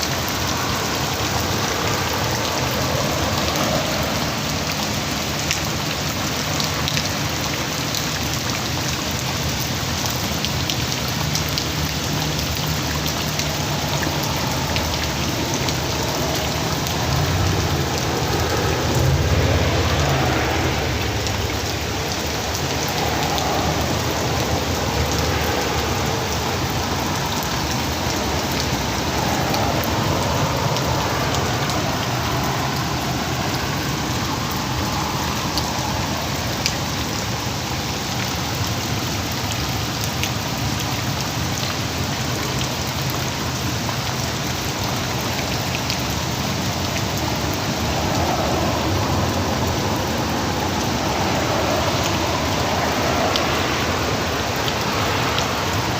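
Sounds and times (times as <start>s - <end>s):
heavy rain falling: 0.0s - 55.9s
sharp raindrop ticks: 0.0s - 55.9s.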